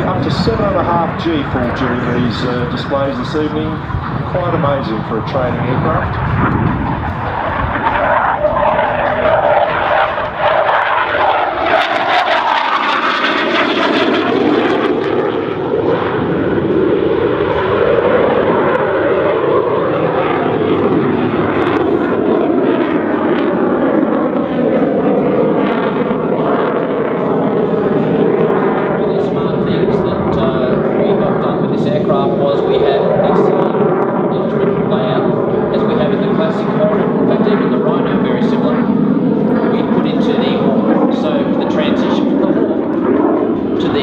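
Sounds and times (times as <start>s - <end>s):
jet engine roaring past: 0.0s - 44.0s.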